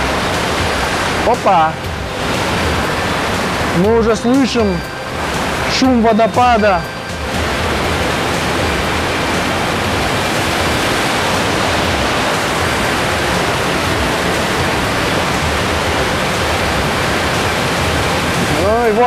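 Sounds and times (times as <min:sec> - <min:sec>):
mountain stream flowing: 0:00.0 - 0:19.0
waterfall rushing: 0:00.0 - 0:19.0.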